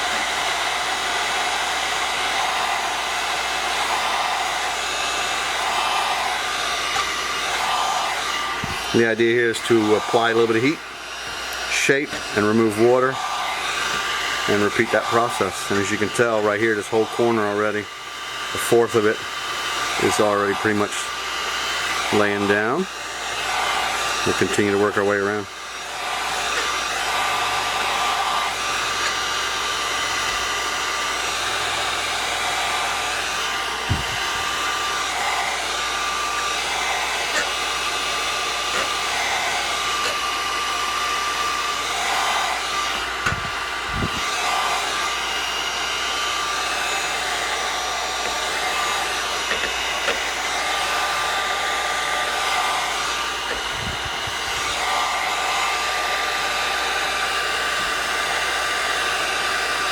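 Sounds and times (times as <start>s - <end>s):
heat gun blowing: 0.0s - 59.9s.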